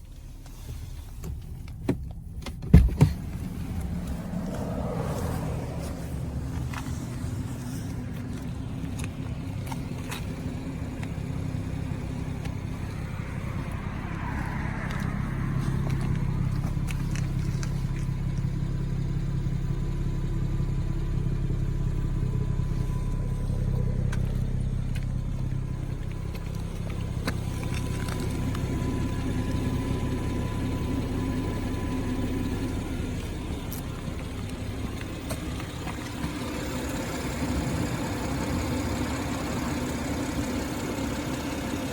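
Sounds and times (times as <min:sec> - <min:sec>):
car cabin engine drone: 0:00.0 - 0:41.9.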